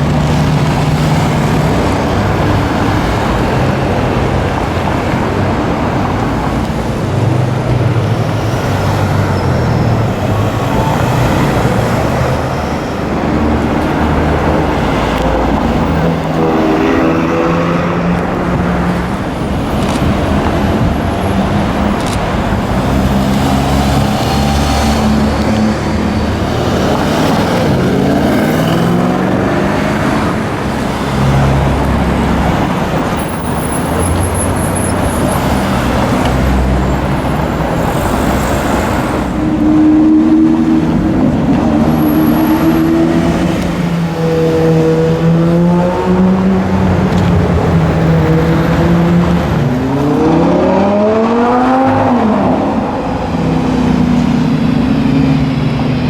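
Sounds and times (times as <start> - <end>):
car engine revving hard: 0.0 - 56.0
sports car engines in traffic: 0.0 - 56.0.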